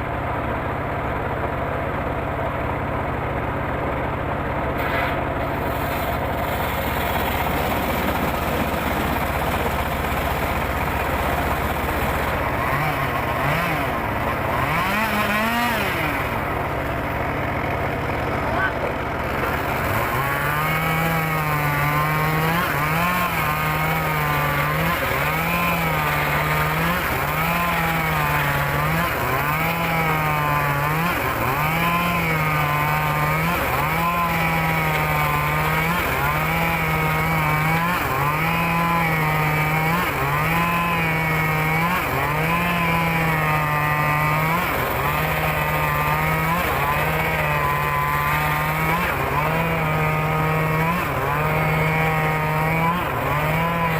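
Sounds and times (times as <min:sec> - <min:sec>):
engine under changing load: 0:00.0 - 0:53.9
circular saw blade ripping log: 0:04.7 - 0:17.1, 0:19.2 - 0:53.9.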